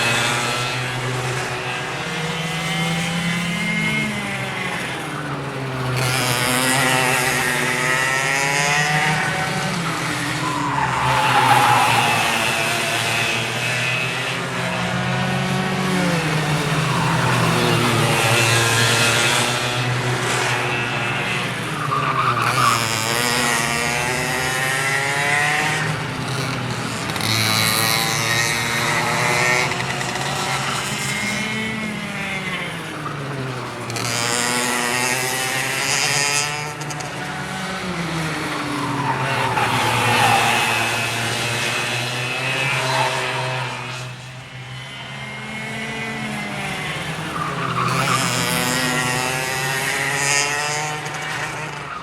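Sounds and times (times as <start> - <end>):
go-kart engines revving: 0.0 - 52.0.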